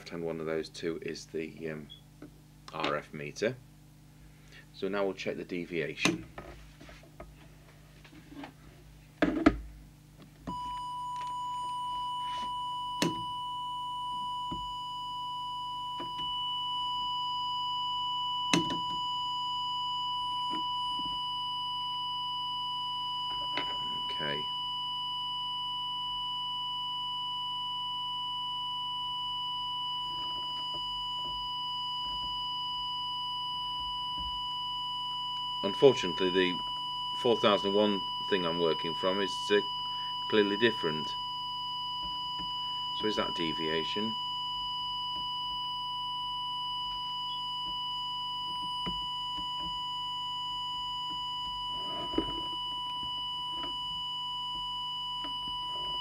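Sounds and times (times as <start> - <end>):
single-pitch test tone: 10.4 - 56.0.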